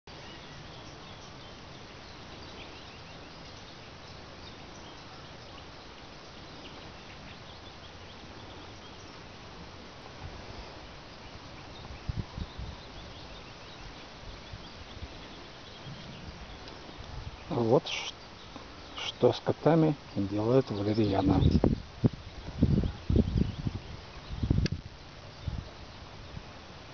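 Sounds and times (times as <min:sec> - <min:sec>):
small birds chirping: 0:00.1 - 0:26.9
steady faint hiss: 0:00.1 - 0:26.9.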